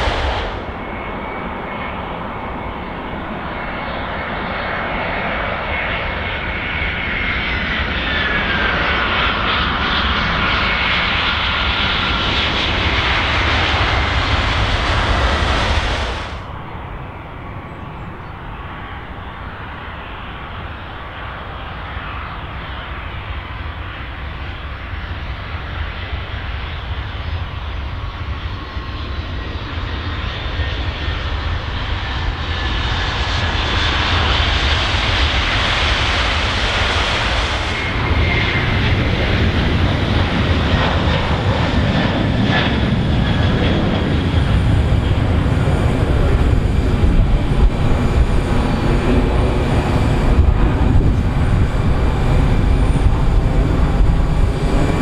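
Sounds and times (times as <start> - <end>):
jet airliner passing by: 0.0 - 55.0
jet engine noise: 0.0 - 55.0.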